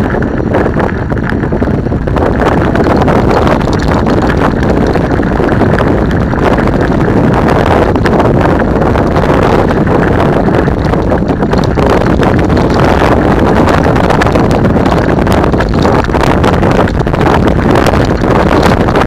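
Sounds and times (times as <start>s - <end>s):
bike rattling over stones: 0.0s - 19.0s
bike tyres crunching on gravel: 0.0s - 19.0s
wind buffeting microphone: 0.0s - 19.0s.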